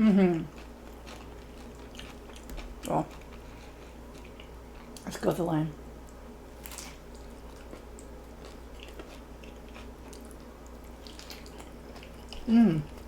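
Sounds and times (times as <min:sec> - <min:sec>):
person chewing crunchy food: 0:00.3 - 0:05.0, 0:06.0 - 0:13.0.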